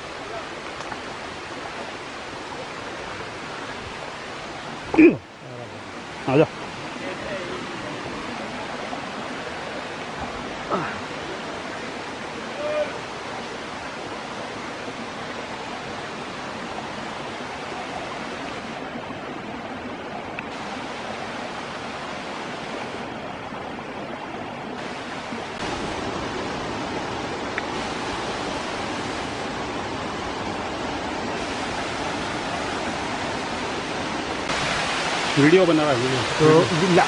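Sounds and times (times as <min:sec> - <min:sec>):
water rushing from small waterfall: 0:00.0 - 0:37.0.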